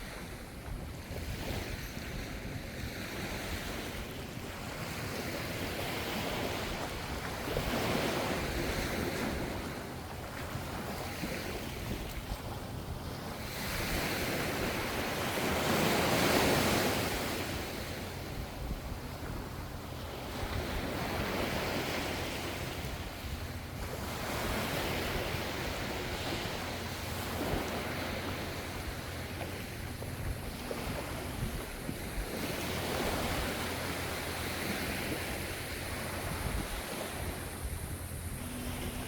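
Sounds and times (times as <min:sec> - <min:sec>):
ocean waves washing onto shore: 0:00.0 - 0:39.0.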